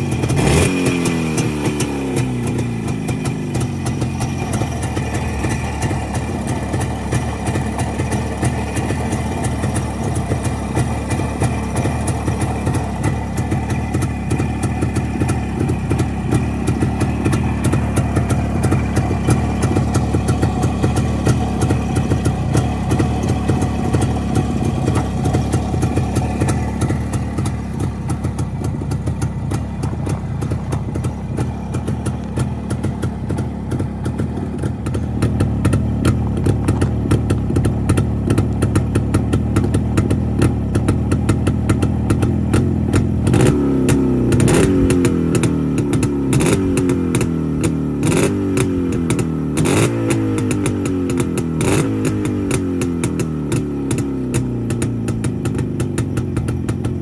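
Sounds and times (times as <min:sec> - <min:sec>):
motorcycle engine idling: 0:00.0 - 0:57.0
motorcycle throttle blips: 0:00.0 - 0:57.0.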